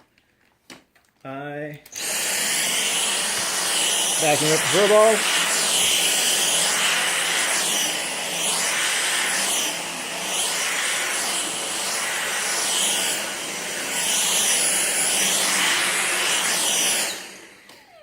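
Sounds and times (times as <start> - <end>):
vacuum cleaner on carpet: 1.9 - 18.0.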